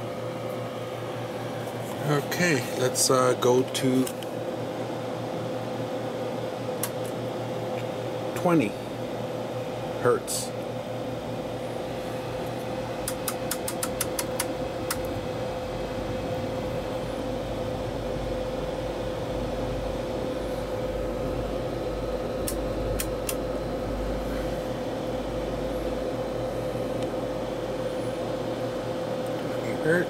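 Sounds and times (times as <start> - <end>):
electrical hum and whine: 0.0 - 30.0.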